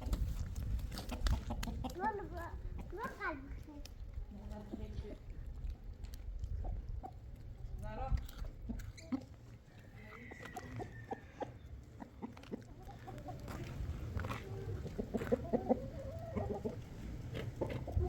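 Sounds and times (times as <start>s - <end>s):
chickens clucking: 0.0s - 3.5s, 4.3s - 7.8s, 8.4s - 18.0s.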